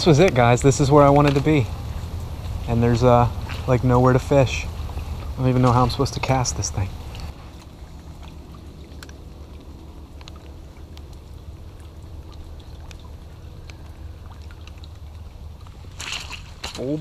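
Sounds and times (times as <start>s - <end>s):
sharp drip ticks: 0.0s - 16.8s
low steady rumble: 0.0s - 17.0s
rain on water and leaves: 0.0s - 17.0s.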